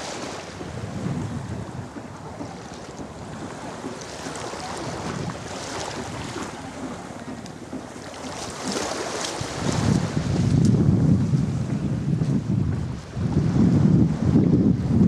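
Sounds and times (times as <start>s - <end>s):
small sea waves on shore: 0.0s - 12.1s
wind buffeting microphone: 0.0s - 15.0s.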